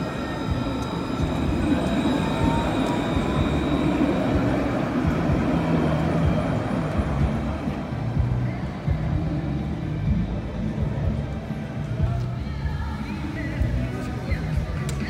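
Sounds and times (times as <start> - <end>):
tram electric whine: 0.0 - 15.0
wheels rumbling on rail: 0.0 - 15.0.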